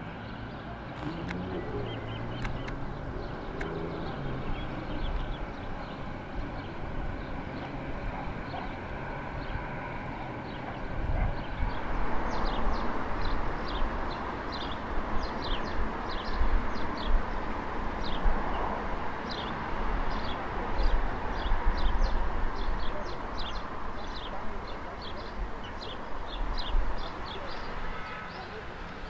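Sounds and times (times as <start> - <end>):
small birds chirping: 0.2 - 29.0.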